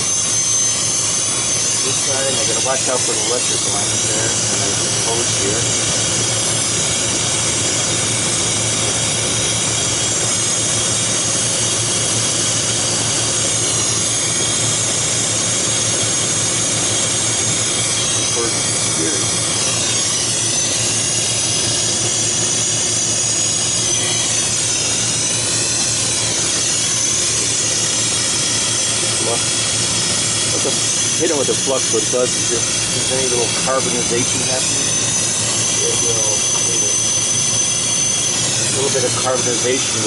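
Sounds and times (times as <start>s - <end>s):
gas torch flame hissing: 0.0s - 14.8s, 15.4s - 40.0s.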